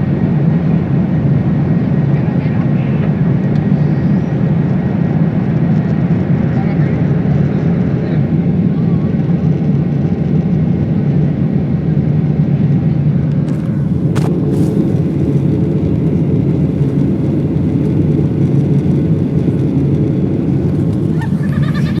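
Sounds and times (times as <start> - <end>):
engine and airflow rumble: 0.0 - 22.0.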